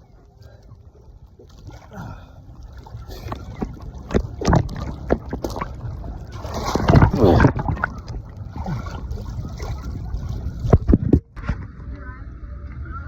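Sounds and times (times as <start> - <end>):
moving seawater: 0.0 - 12.2
wind rumbling on microphone: 0.0 - 13.0.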